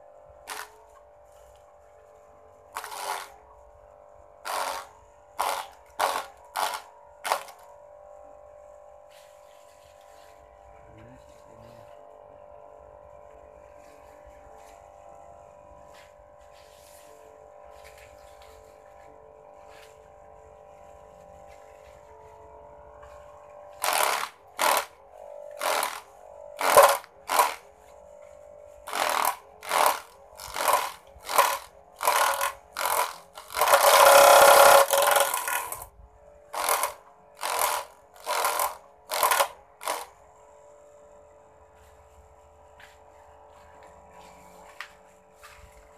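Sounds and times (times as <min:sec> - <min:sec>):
small electric motor whining: 0:00.0 - 0:45.9.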